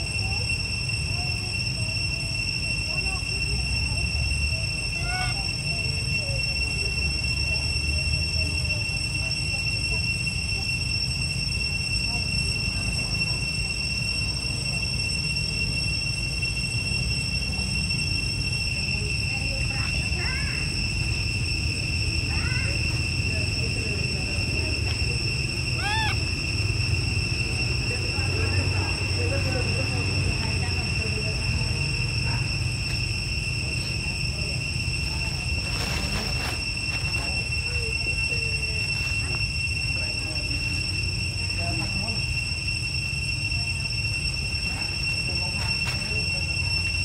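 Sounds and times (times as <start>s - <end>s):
constant low rumble: 0.0s - 47.0s
high-pitched insect drone: 0.0s - 47.0s.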